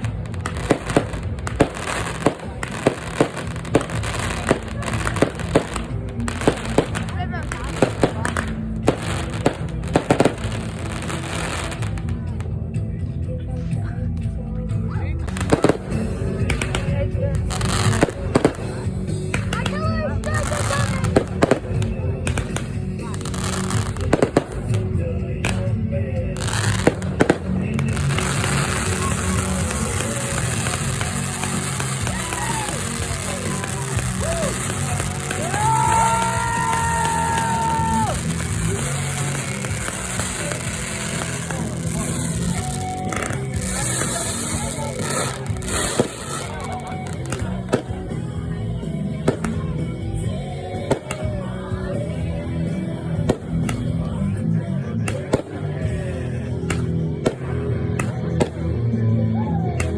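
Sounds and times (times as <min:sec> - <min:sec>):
fireworks bangs and pops: 0:00.0 - 0:12.9, 0:15.2 - 0:58.8.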